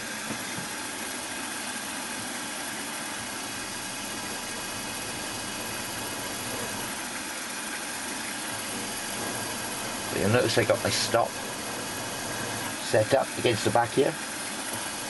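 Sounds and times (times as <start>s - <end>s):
milling machine motor hum: 0.0s - 15.0s.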